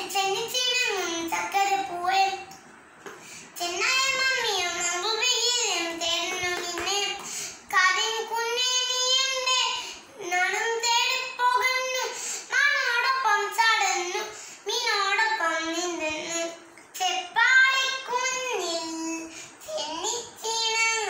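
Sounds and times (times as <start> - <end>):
young girl singing: 0.0 - 2.7, 3.4 - 21.0.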